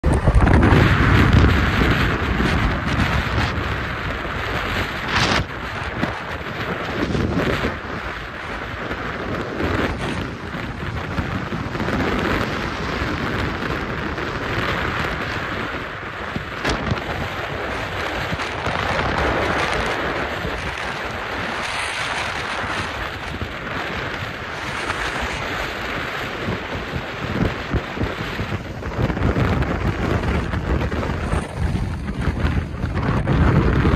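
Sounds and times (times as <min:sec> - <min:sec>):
freight train wheels rumbling: 0:00.0 - 0:33.9
wind buffeting microphone: 0:00.0 - 0:33.9.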